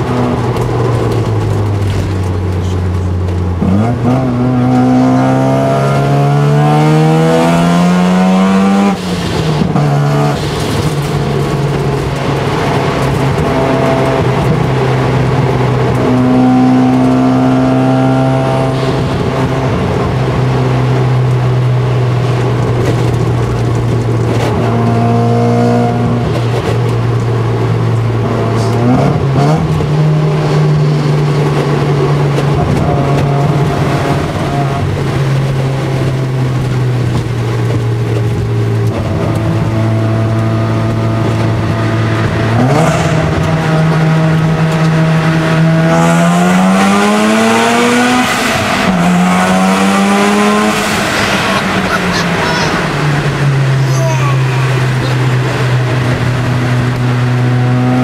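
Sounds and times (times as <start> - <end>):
rotary engine revving in cabin: 0.0 - 53.9, 54.5 - 58.0.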